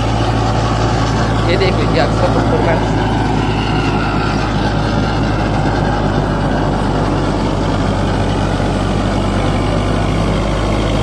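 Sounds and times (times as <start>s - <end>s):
rotavator churning soil: 0.0s - 11.0s
tractor diesel engine running: 0.0s - 11.0s.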